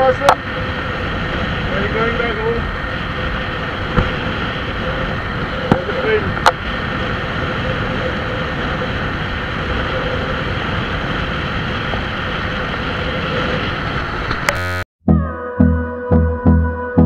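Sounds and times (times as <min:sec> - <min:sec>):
wind rushing over microphone: 0:00.0 - 0:14.8
motorcycle engine humming: 0:00.0 - 0:14.9.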